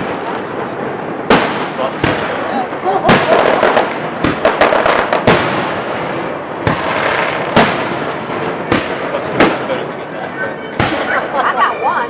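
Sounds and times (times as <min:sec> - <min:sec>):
fireworks bangs and crackles: 0:00.0 - 0:12.0
fireworks heavy booms: 0:00.0 - 0:12.0.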